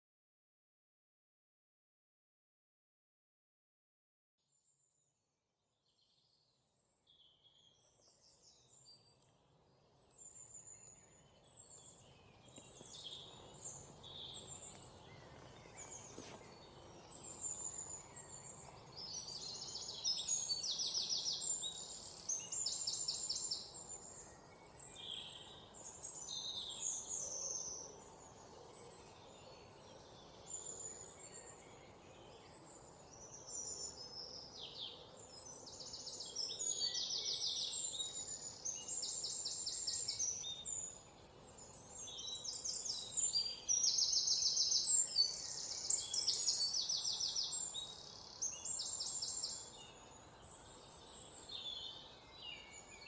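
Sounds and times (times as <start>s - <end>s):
faint outdoor hiss: 4.6s - 53.0s
songbirds chirping: 5.8s - 53.0s.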